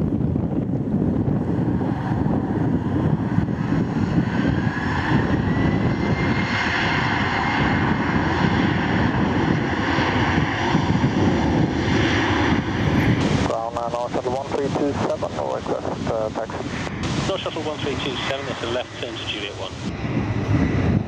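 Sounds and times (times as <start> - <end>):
aircraft engine rumble: 0.0 - 21.0
rising engine whine: 0.0 - 21.0.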